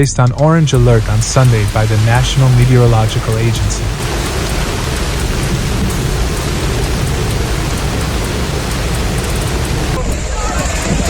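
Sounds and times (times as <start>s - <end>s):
heavy rain: 0.4s - 11.0s
wind buffeting microphone: 0.7s - 11.0s.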